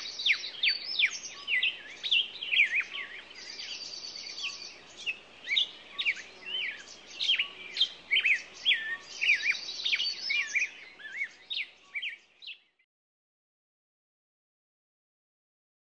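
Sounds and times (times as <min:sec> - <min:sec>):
songbirds chirping: 0:00.0 - 0:12.8.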